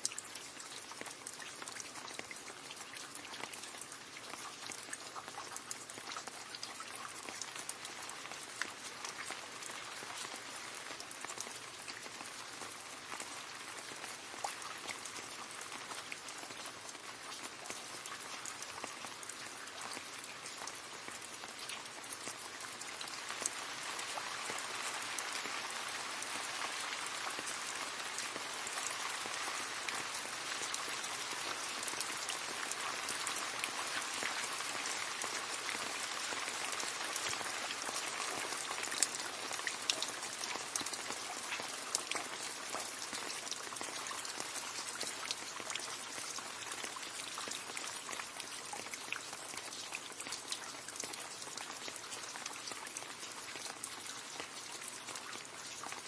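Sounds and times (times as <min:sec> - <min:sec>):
rain splashing into a puddle: 0:00.0 - 0:56.0.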